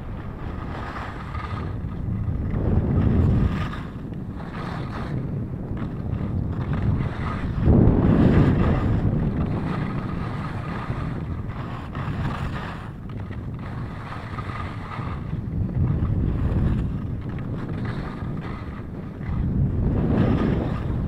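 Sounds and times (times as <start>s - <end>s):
wind buffeting microphone: 0.0s - 21.0s
skis sliding on snow: 0.1s - 21.0s.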